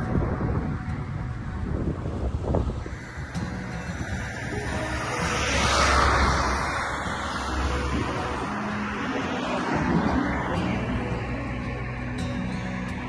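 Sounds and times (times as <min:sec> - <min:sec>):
low traffic rumble: 0:00.0 - 0:13.0
vehicle passing: 0:01.0 - 0:13.0.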